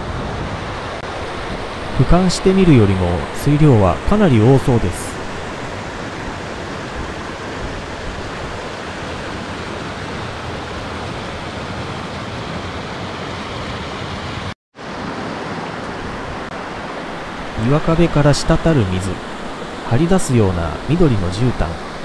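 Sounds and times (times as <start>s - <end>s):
waterfall rushing water: 0.1s - 22.0s.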